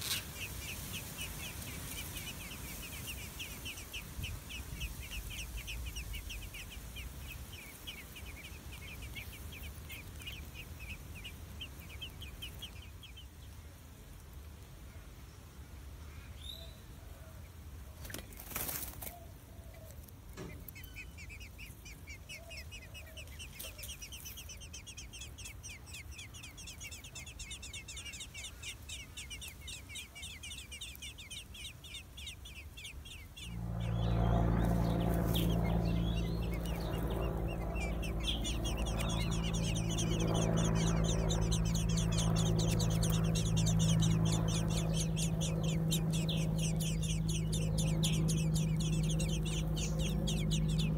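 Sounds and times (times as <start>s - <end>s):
low steady hum: 0.0s - 50.9s
nestling birds chirping: 0.0s - 50.9s.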